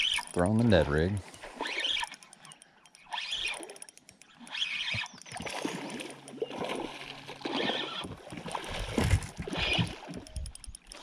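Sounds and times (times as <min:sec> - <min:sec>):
fish splashing in water: 0:01.3 - 0:02.5, 0:03.1 - 0:11.0.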